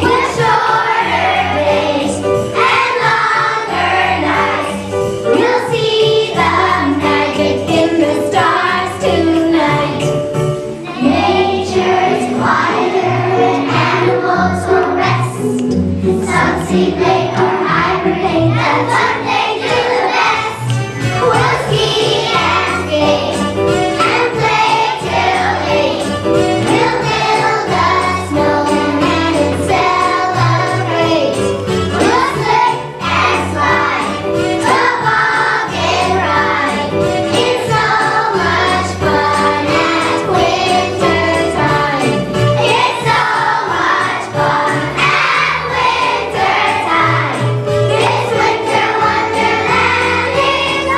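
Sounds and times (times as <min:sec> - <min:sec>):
children's choir singing: 0:00.0 - 0:50.9
instrumental accompaniment with bass: 0:00.0 - 0:50.9.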